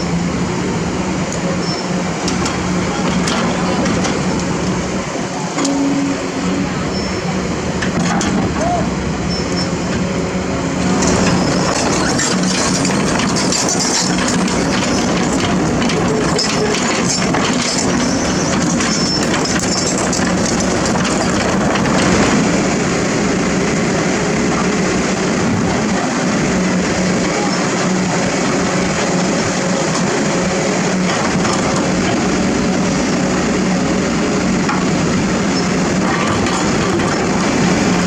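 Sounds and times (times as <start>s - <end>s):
diesel engine under load: 0.0s - 38.0s
steel tracks clanking: 0.0s - 38.0s.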